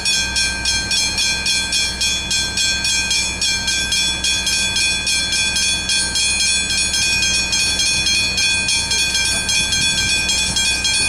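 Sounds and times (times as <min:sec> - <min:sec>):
level crossing bell ringing: 0:00.0 - 0:11.0.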